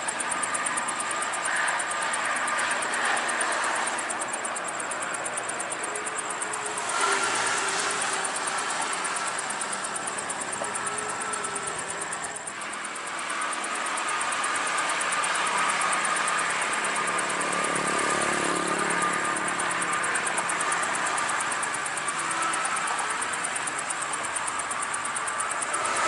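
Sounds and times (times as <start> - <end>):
crickets chirping: 0.0 - 26.0
traffic passing: 0.0 - 26.0.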